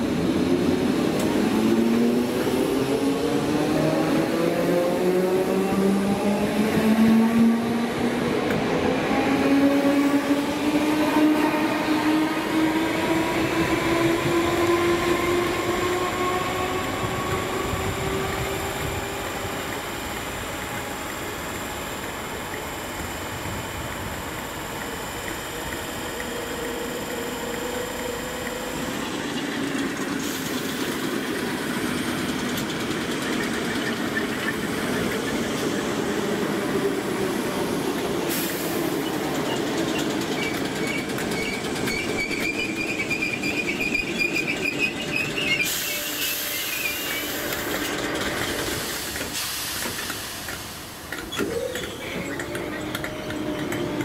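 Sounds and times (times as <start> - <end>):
rail noise rumble: 0.0 - 54.0
electric train motors whining: 0.2 - 38.2, 38.8 - 54.0.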